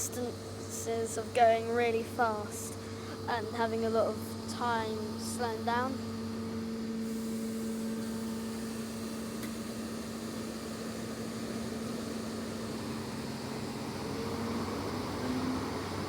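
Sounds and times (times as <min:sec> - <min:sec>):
diesel train engine running: 0:00.0 - 0:16.0.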